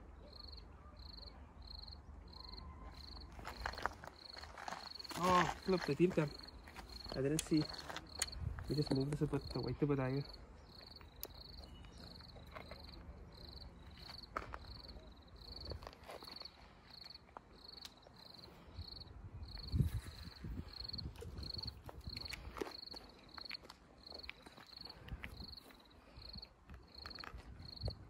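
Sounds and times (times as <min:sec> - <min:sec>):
insect chirping: 0:00.3 - 0:28.0.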